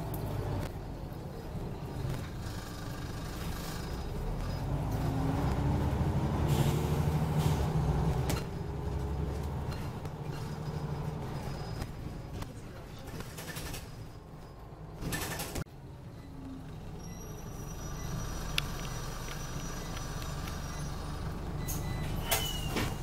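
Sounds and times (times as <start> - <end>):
bus diesel engine: 0.0 - 23.0.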